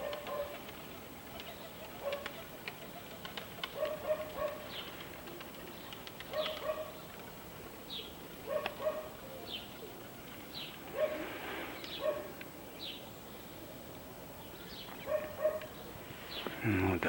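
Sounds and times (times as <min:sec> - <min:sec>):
pigeons cooing: 0:00.0 - 0:13.8, 0:14.7 - 0:17.0.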